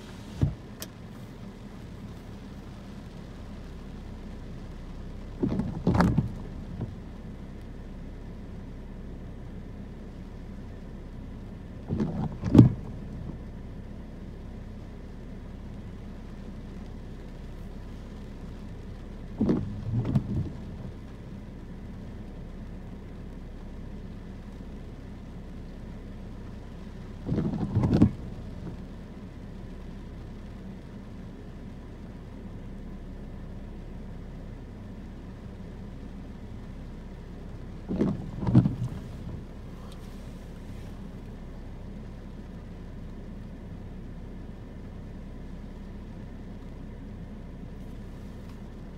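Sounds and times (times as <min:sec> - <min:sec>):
low hum inside car: 0:00.0 - 0:48.9
rain on car windows: 0:00.0 - 0:48.9.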